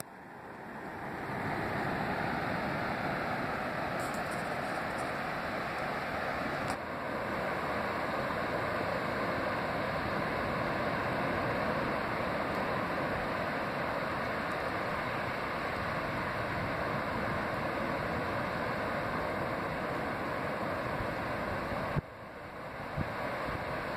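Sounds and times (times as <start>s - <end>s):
ocean surf breaking: 0.0s - 23.9s.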